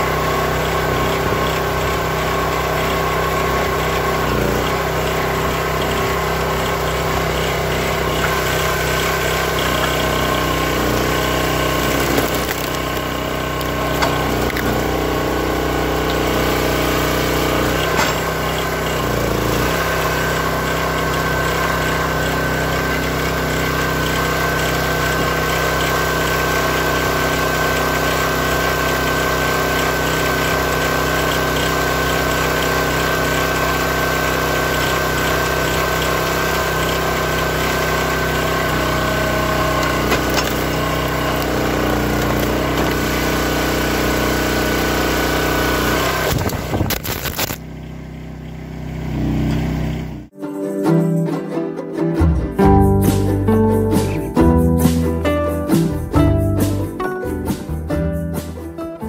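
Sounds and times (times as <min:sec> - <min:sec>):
log splitter engine running: 0:00.0 - 0:50.3, 0:51.2 - 0:59.0.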